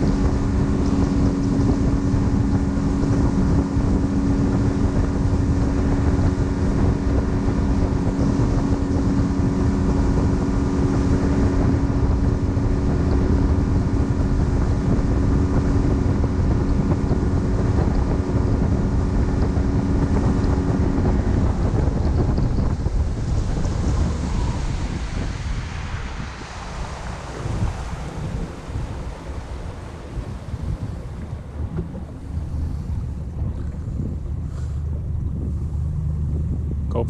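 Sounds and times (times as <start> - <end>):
outboard motor running: 0.0 - 37.0
water noise: 0.0 - 37.0
wind buffeting microphone: 0.0 - 37.0.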